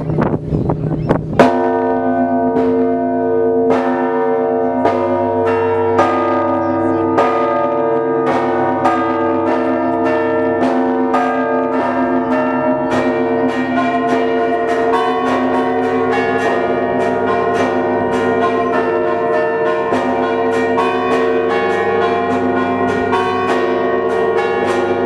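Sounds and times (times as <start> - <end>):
church bells ringing: 0.0 - 25.0
hum of large bells: 0.0 - 25.0.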